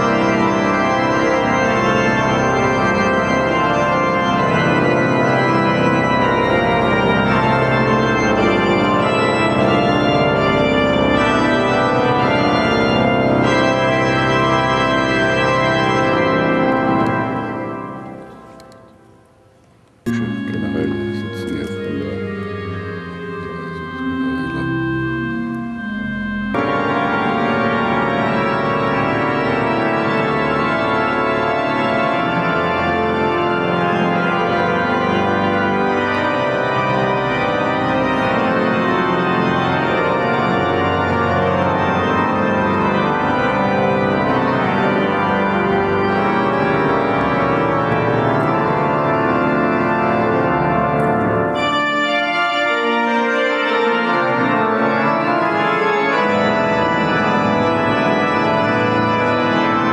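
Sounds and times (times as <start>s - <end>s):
pipe organ playing full: 0.0s - 59.9s.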